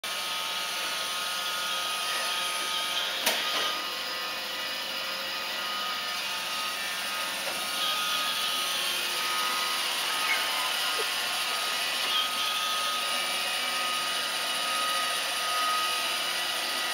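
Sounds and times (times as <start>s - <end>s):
robot vacuum whirring: 0.1s - 16.9s.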